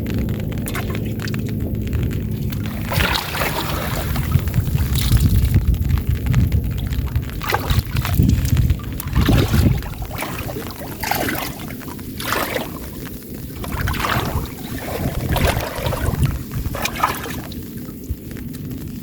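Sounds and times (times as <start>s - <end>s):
water sloshing and splashing: 0.0s - 19.0s
wind buffeting microphone: 0.0s - 19.0s.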